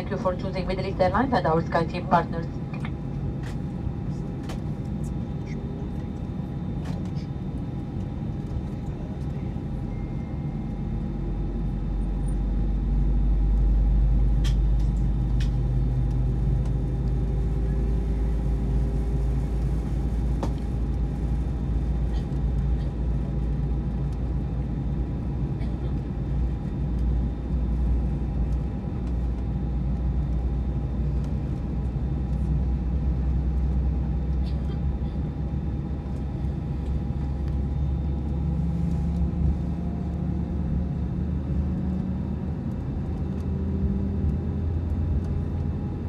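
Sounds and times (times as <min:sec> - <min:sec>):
aircraft cabin hum: 0:00.0 - 0:46.0
low rumble: 0:00.0 - 0:46.0.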